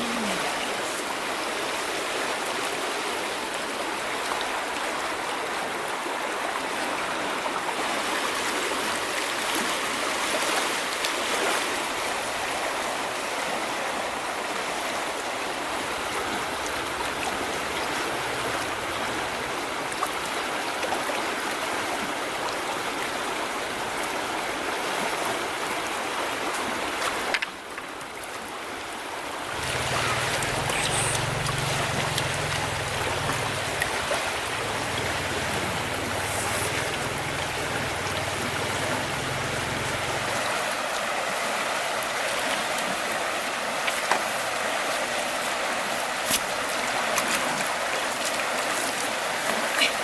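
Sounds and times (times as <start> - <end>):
river water rushing: 0.0 - 50.0.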